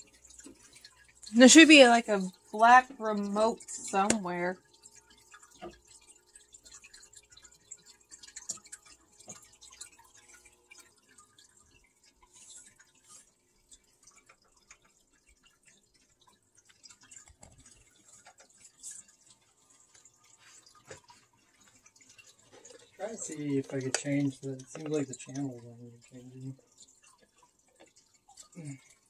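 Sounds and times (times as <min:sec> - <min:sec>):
faint steady hum: 0:00.0 - 0:29.0
water dripping: 0:00.0 - 0:29.0.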